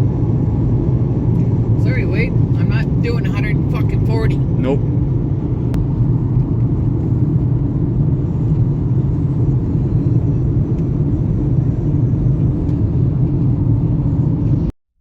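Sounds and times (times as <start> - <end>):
car cabin road rumble: 0.0 - 14.7.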